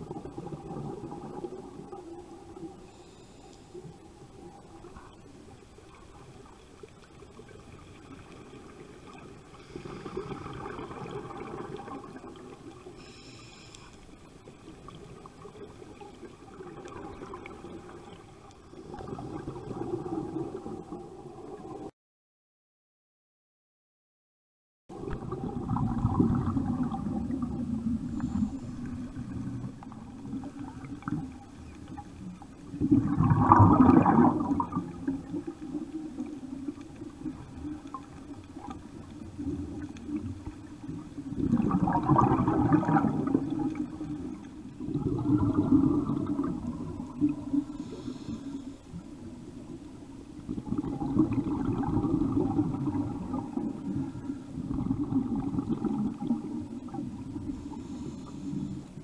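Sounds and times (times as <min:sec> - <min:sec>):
gurgling exhaled bubbles underwater: 0:00.0 - 0:03.2, 0:03.8 - 0:13.4, 0:14.2 - 0:21.9, 0:24.9 - 0:59.0.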